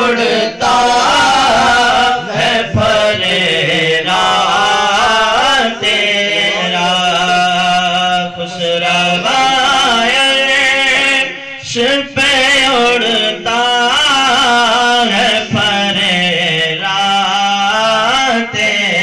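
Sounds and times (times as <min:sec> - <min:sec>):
young man singing devotional chant: 0:00.0 - 0:19.0.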